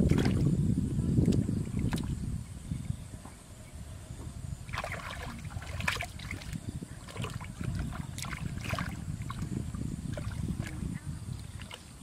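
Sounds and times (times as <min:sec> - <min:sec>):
water splashing and sloshing: 0:00.0 - 0:02.4, 0:04.3 - 0:12.0.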